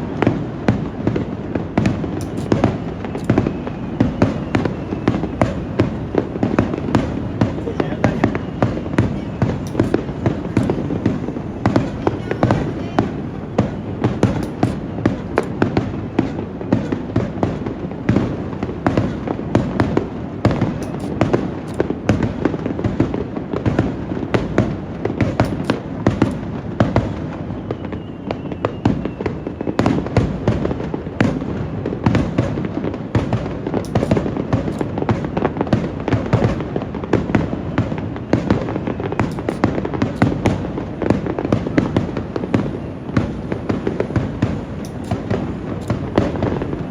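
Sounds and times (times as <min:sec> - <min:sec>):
fireworks bangs: 0:00.0 - 0:46.9
low fireworks rumble: 0:00.0 - 0:46.9.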